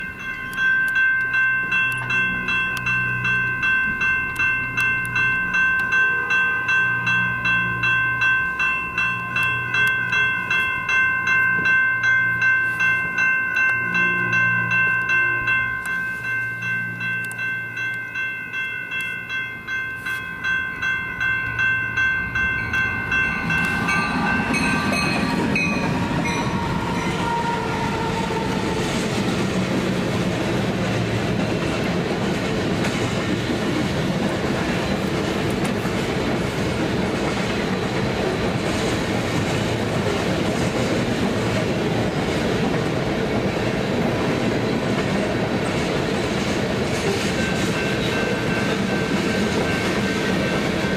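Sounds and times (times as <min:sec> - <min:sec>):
crossing bell ringing: 0:00.0 - 0:30.1, 0:33.2 - 0:50.9
freight train rumble: 0:00.0 - 0:50.9.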